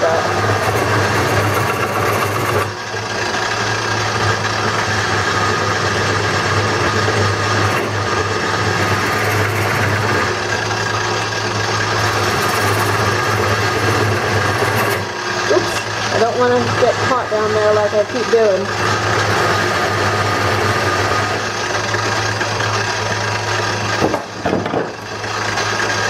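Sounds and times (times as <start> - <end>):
chisel cutting wood: 0.0 - 26.0
lathe motor hum: 0.0 - 26.0.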